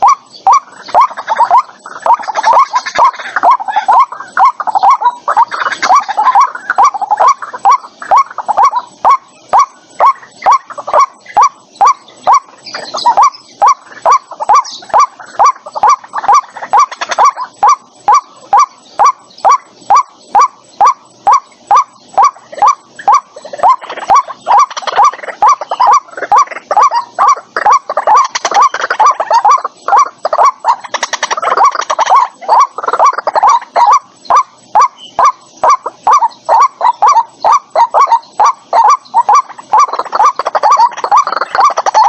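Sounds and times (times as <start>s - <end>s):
waterhen calling: 0.0s - 42.0s.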